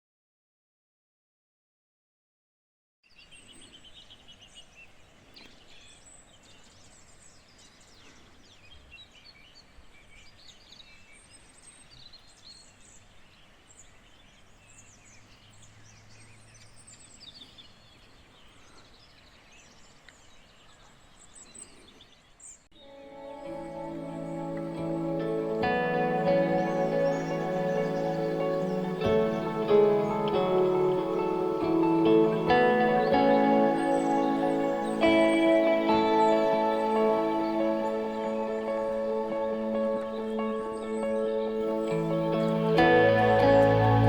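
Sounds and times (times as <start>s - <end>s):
faint outdoor background hiss: 3.0s - 44.0s
small birds chirping: 3.0s - 44.0s.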